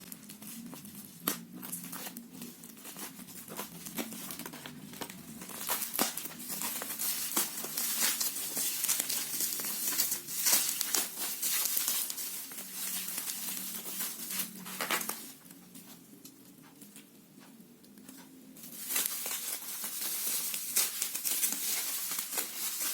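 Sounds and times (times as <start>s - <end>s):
packaging crinkling and tearing: 0.0s - 15.6s, 18.6s - 22.9s.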